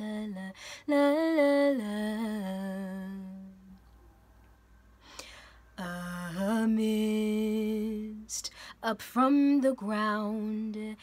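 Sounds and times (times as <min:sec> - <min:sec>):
woman singing unaccompanied: 0:00.0 - 0:03.8, 0:05.7 - 0:11.0.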